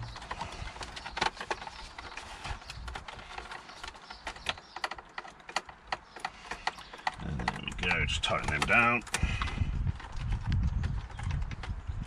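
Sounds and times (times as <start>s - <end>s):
plastic parts clicking: 0.0s - 11.8s.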